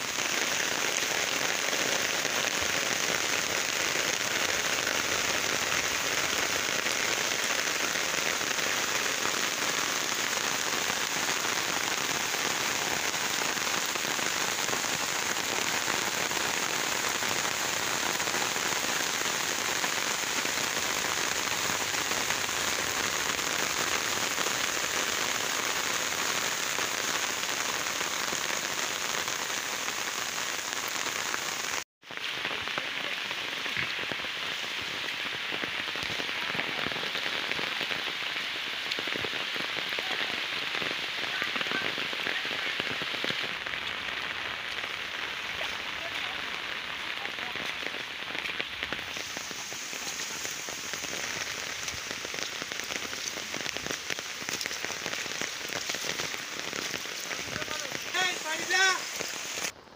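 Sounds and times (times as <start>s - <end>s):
heavy rain on leaves: 0.0s - 59.9s.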